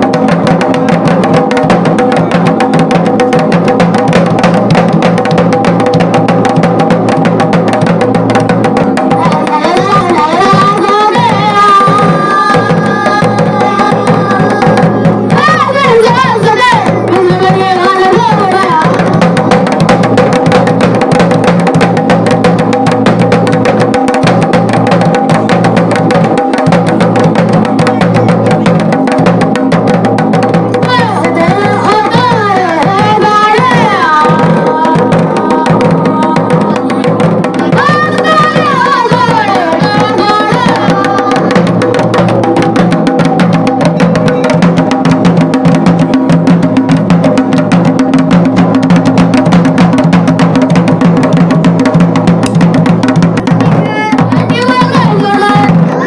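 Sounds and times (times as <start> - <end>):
drum fast roll: 0.0 - 56.0.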